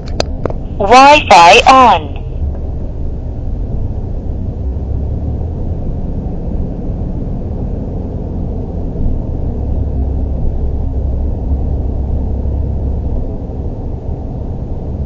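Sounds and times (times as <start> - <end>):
car driving heard from inside: 2.2 - 15.0.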